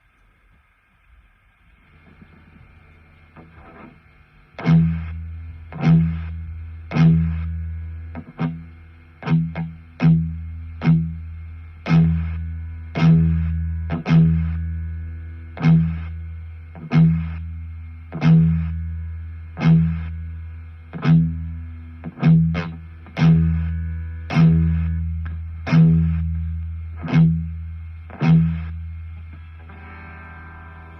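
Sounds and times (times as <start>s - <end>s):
steady low amp drone: 1.5s - 30.9s
electric guitar low notes: 1.8s - 30.9s.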